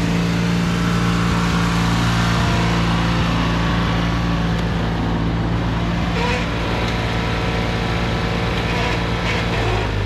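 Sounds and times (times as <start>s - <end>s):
riding lawn mower engines: 0.0s - 10.0s.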